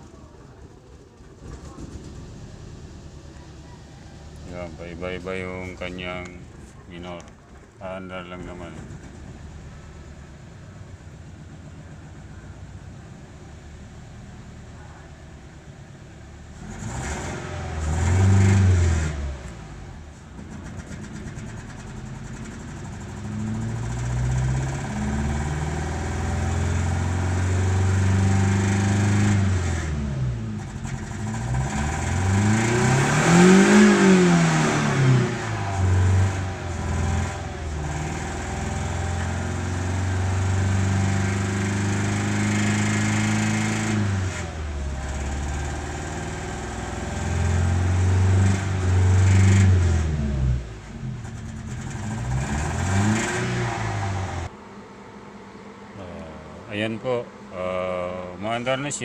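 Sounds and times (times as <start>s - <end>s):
car engine revving unevenly: 0.0s - 59.0s.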